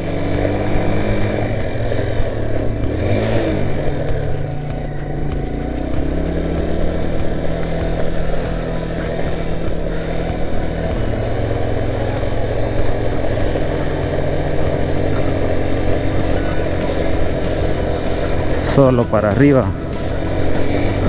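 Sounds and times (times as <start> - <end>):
motorcycle engine running: 0.0 - 21.0
road and wind noise: 0.0 - 21.0.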